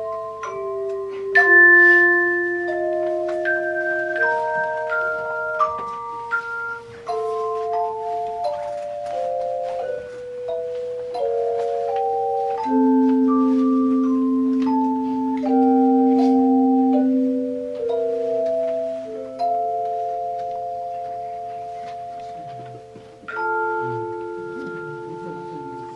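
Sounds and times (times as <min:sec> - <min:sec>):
handheld tuned chimes ringing: 0:00.0 - 0:25.9.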